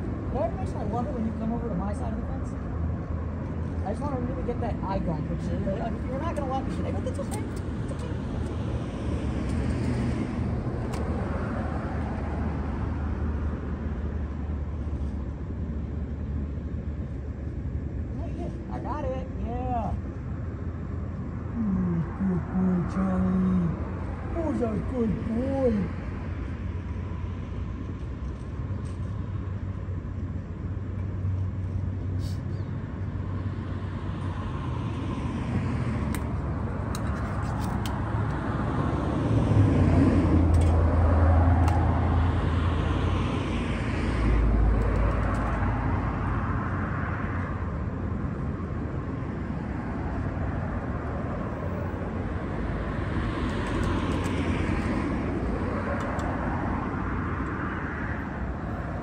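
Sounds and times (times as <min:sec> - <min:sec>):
traffic rumble: 0:00.0 - 0:59.0
vehicles passing by: 0:00.0 - 0:59.0.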